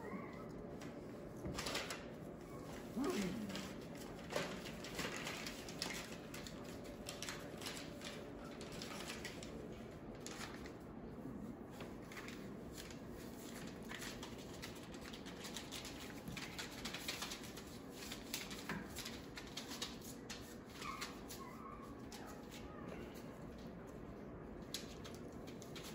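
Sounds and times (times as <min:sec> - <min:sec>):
puppy paws scratching on newspaper: 0:00.1 - 0:25.9.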